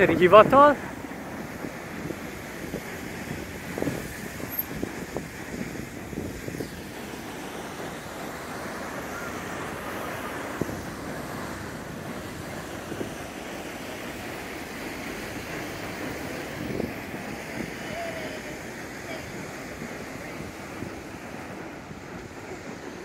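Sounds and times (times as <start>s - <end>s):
traffic: 0.0s - 23.0s
wind on microphone: 0.0s - 23.0s.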